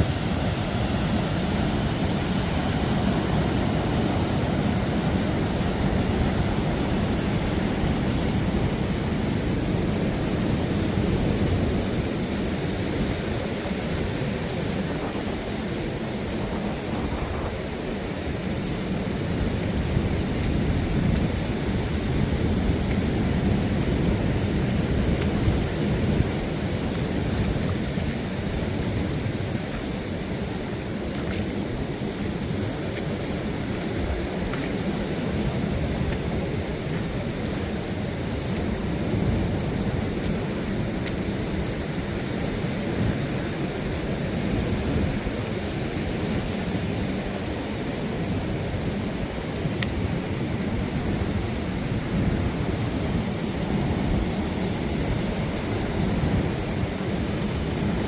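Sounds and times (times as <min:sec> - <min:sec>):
ocean surf: 0:00.0 - 0:58.0
wind and rain rumble: 0:00.0 - 0:58.0.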